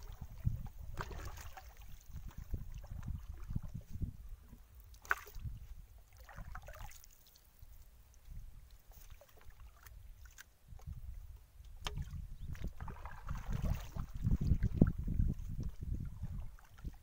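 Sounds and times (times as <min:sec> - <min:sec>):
water splashes: 0:00.0 - 0:04.0, 0:04.9 - 0:10.9, 0:11.8 - 0:17.0
paddle dipping and pulling through water: 0:00.0 - 0:17.0.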